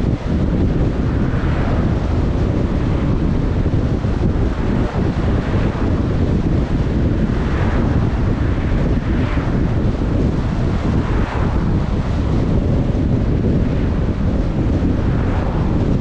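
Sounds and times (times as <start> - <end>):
car road noise rumble: 0.0 - 16.0
wind buffeting microphone: 0.0 - 16.0.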